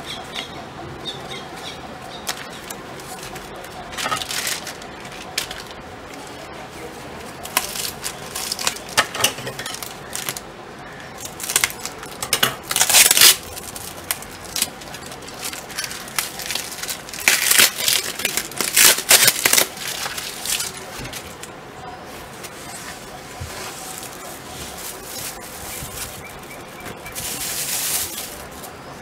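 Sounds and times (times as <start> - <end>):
plastic and foam crinkling: 2.3 - 10.5, 11.2 - 29.0.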